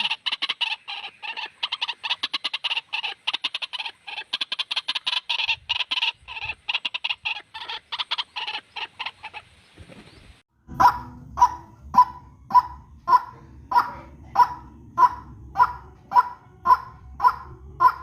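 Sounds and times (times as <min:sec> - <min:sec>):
bird harsh croaking calls: 0:00.0 - 0:18.0.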